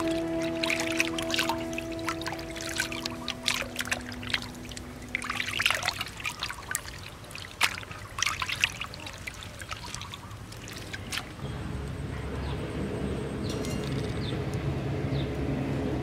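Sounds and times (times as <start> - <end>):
water splashing and sloshing: 0.0 - 14.6.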